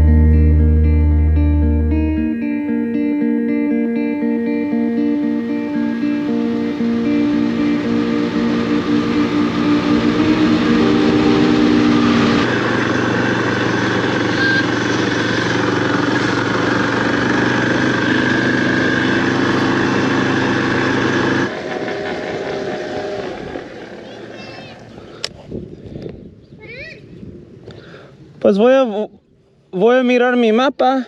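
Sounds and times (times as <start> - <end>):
motorcycle engine droning: 0.0 - 25.2.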